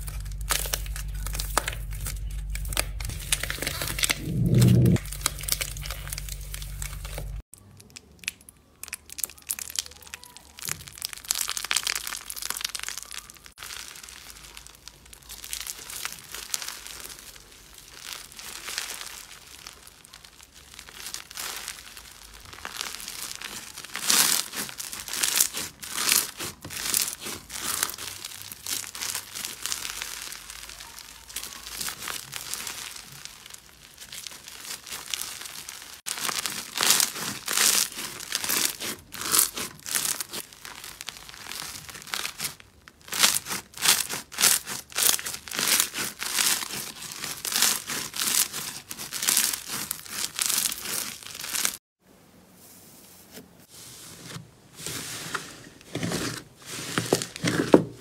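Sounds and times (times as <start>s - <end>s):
crunchy slime crackling: 0.0s - 51.8s.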